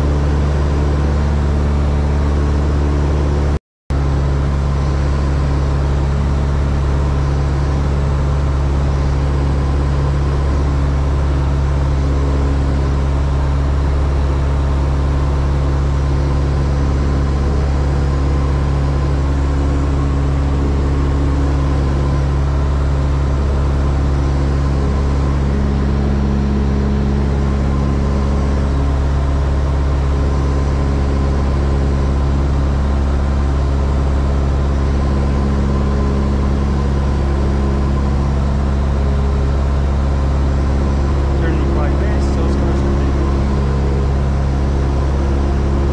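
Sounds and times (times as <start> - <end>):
propeller plane engine droning: 0.0 - 45.9.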